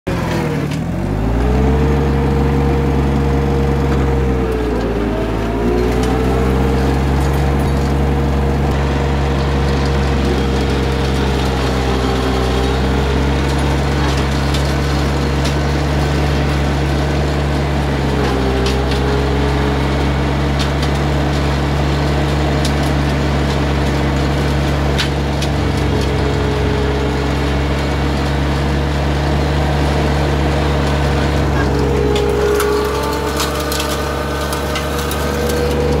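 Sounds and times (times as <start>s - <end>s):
tractor diesel engine under load: 0.0s - 36.0s
flail mulcher shredding grass: 0.1s - 36.0s.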